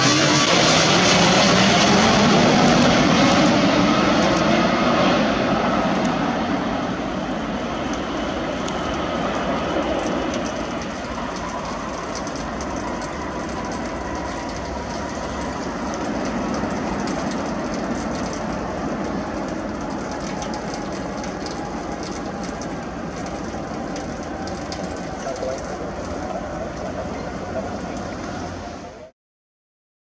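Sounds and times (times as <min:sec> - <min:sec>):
jet engines rumbling: 0:00.0 - 0:29.1.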